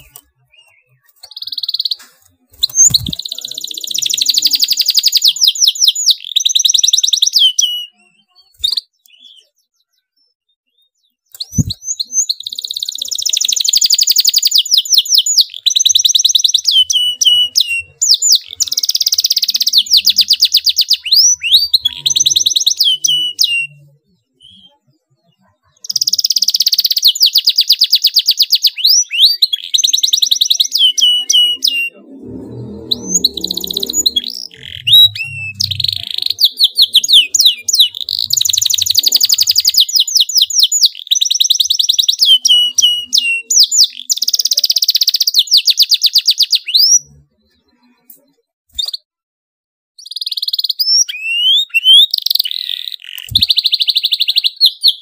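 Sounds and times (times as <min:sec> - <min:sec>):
canary singing: 0:00.0 - 0:47.6, 0:50.0 - 0:55.0.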